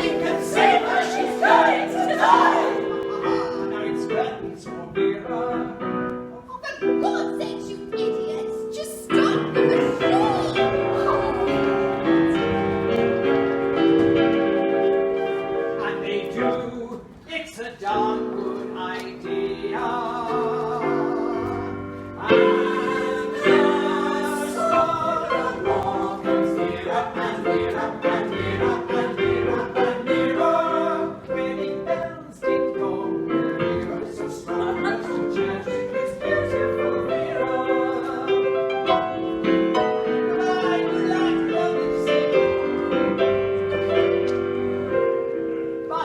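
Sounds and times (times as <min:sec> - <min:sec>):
group of voices singing: 0:00.0 - 0:06.0, 0:09.1 - 0:45.1
piano chords: 0:00.0 - 0:46.0.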